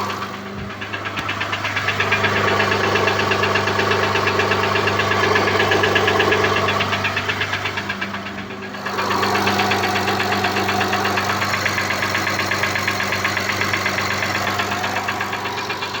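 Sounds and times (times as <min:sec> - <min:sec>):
engine knocking: 0:00.0 - 0:16.0.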